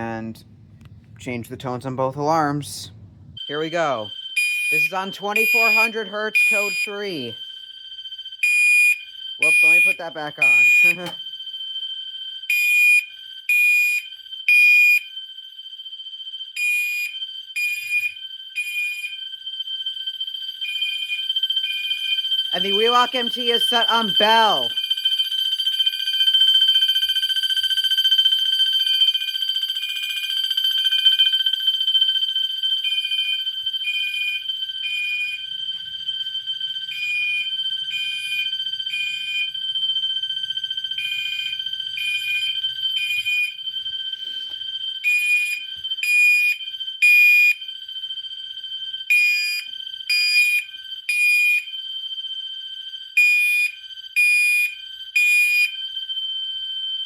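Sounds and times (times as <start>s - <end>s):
steady high electronic alarm tone: 0.0s - 56.9s
fire alarm horn beeping: 0.0s - 57.0s.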